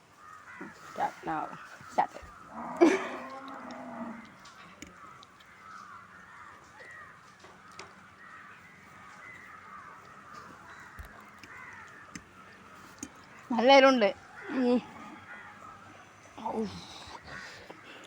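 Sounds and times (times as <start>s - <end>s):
faint crows cawing: 0.0s - 18.0s.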